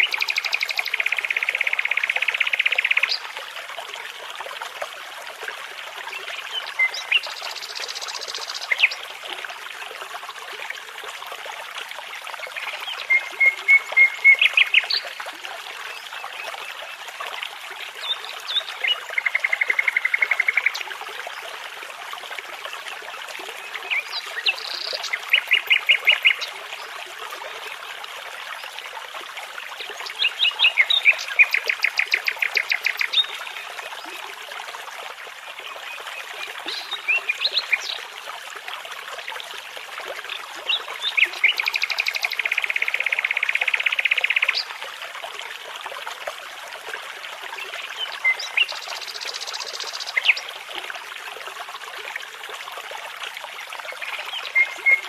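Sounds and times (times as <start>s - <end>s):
babbling brook: 0.0s - 55.0s.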